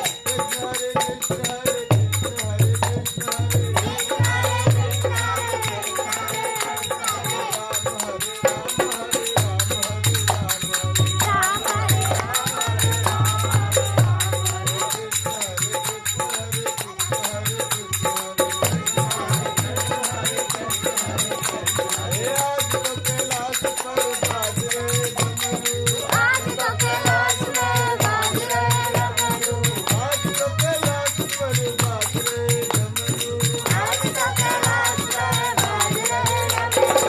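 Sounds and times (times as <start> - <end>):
hand percussion beat: 0.0 - 37.0
person singing: 0.0 - 37.0.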